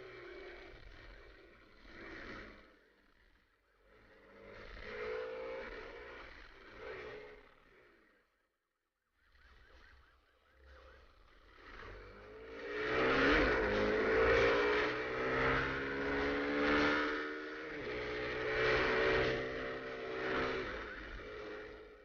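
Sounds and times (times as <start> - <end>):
motorcycle engine accelerating: 0.0 - 8.3, 9.3 - 22.0.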